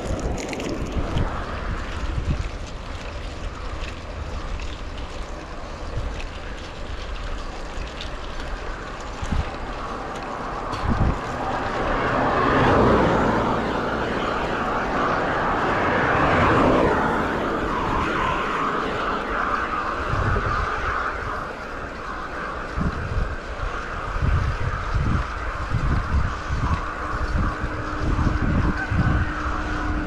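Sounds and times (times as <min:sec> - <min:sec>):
road and traffic noise: 0:00.0 - 0:30.0
wind rushing over microphone: 0:00.0 - 0:30.0.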